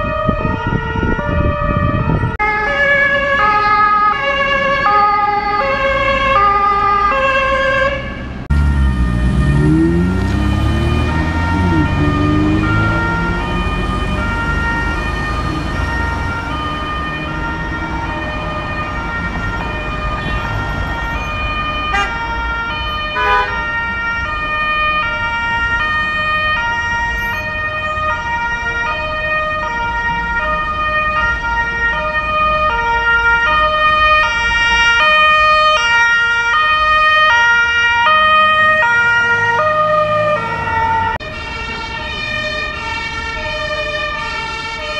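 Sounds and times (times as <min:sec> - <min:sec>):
low street traffic rumble: 0:00.0 - 0:44.9
two-tone emergency siren: 0:00.0 - 0:44.9.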